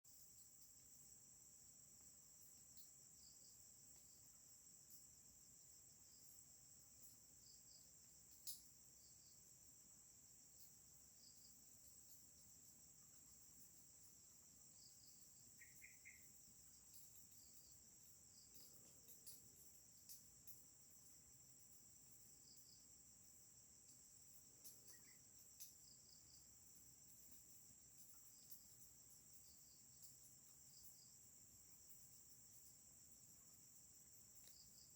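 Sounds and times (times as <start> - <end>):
crickets trilling in chorus: 0.1 - 34.9.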